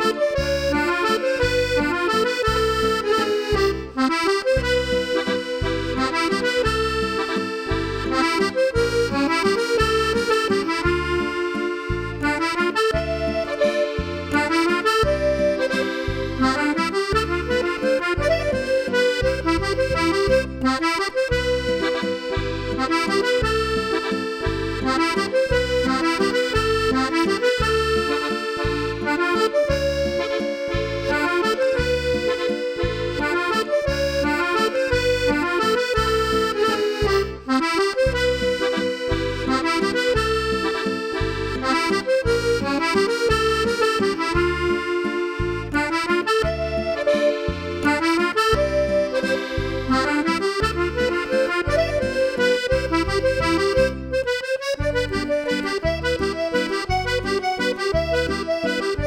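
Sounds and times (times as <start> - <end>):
accordion playing a waltz: 0.0 - 59.0.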